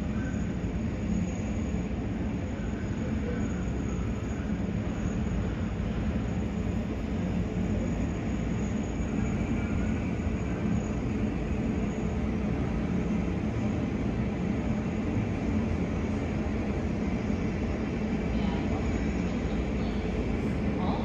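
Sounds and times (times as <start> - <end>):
jet engines taxiing: 0.0 - 21.0.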